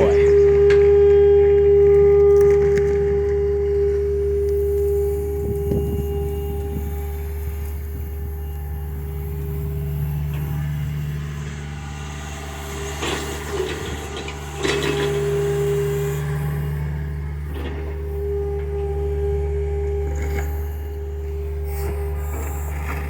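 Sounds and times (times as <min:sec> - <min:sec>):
excavator diesel engine running: 0:00.0 - 0:23.0
steady tone: 0:00.0 - 0:23.0.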